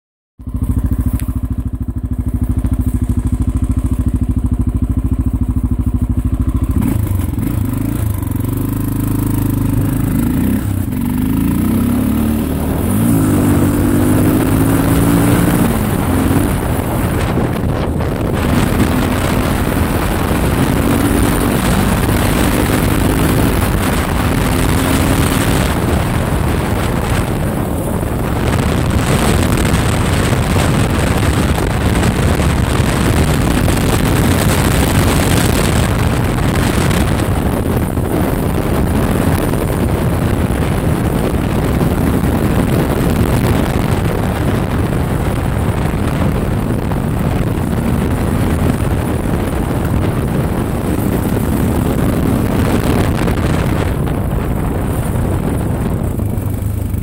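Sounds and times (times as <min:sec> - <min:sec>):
motorcycle engine accelerating: 0:00.4 - 0:57.0
wind noise on microphone: 0:00.4 - 0:57.0.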